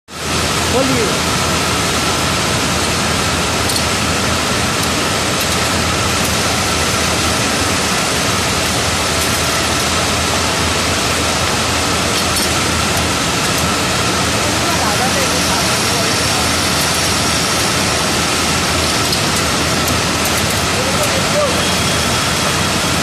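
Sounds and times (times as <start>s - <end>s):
winding machines running: 0.1s - 23.0s.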